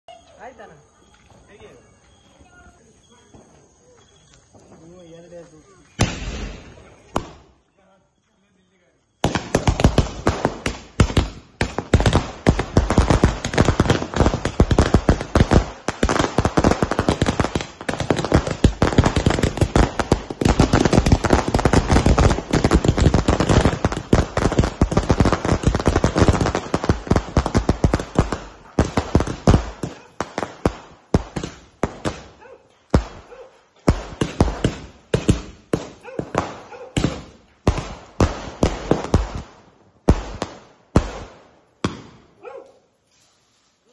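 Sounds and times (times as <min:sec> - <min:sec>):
firework bangs and crackles: 0:04.5 - 0:07.6, 0:09.2 - 0:42.4.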